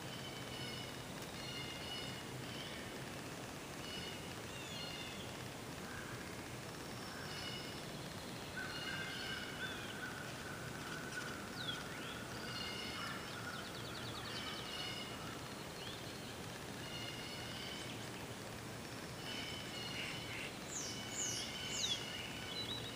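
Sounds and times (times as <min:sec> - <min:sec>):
wild birds singing: 0:00.0 - 0:22.9.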